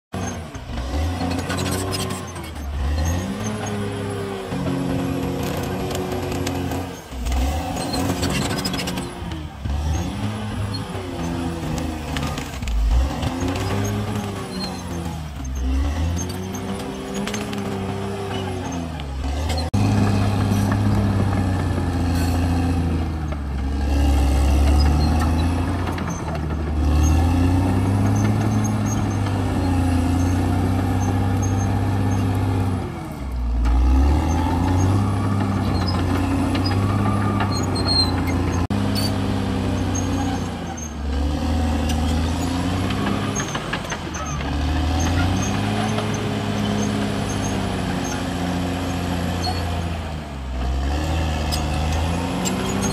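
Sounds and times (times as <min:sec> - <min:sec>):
bulldozer diesel engine working: 0:00.1 - 0:52.9.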